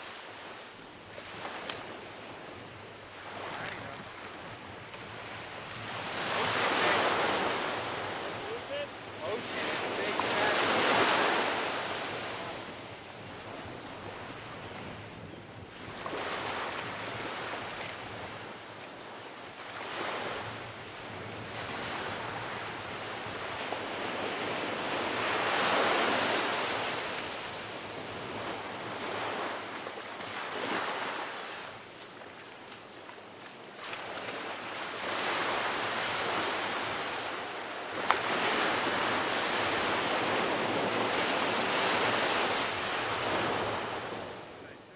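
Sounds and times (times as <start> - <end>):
surf washing up a beach: 0.0 - 44.9.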